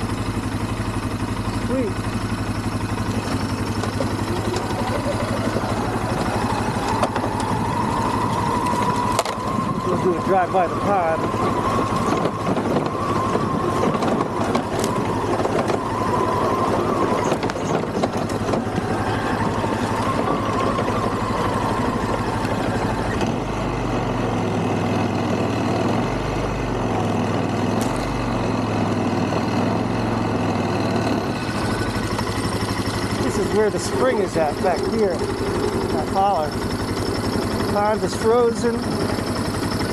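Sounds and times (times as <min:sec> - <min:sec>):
atv engine rumble: 0:00.0 - 0:39.9.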